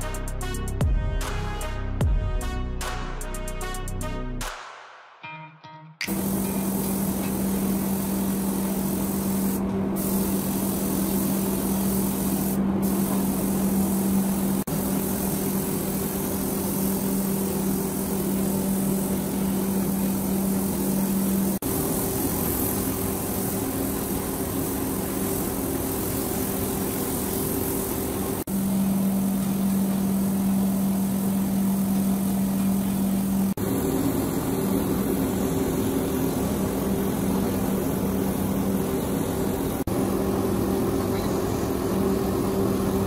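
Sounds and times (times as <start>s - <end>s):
spray gun hissing: 6.1s - 43.0s
steady low hum: 6.1s - 43.0s.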